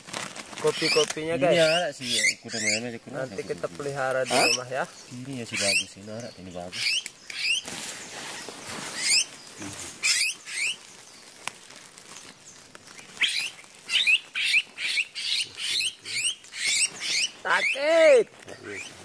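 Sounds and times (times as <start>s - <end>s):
birds squeaking chirps: 0.6s - 19.0s.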